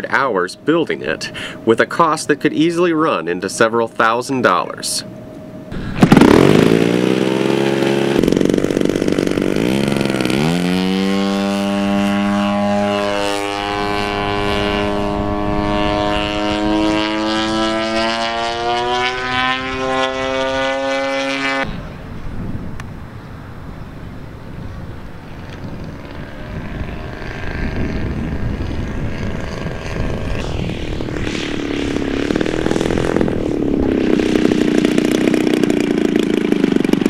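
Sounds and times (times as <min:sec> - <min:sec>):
model airplane engine drone: 0:00.0 - 0:37.0.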